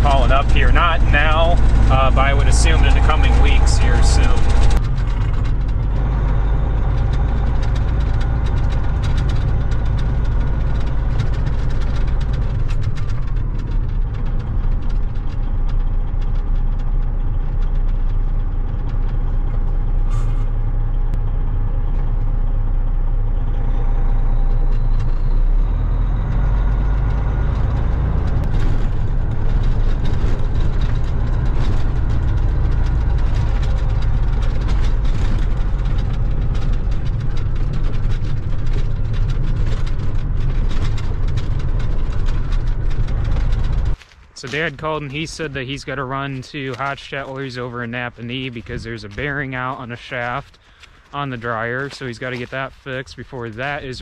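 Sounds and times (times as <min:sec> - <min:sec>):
cab rattles and knocks: 0:00.0 - 0:54.0
diesel truck engine drone: 0:00.0 - 0:54.0.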